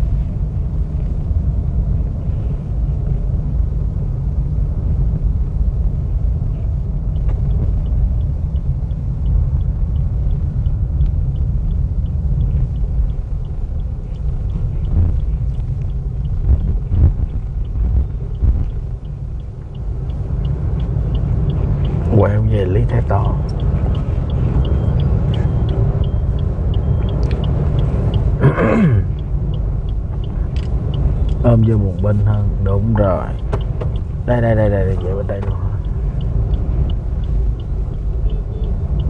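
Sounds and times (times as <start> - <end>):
car engine and tyres rumbling: 0.0 - 39.0
turn signal ticking: 0.0 - 39.0.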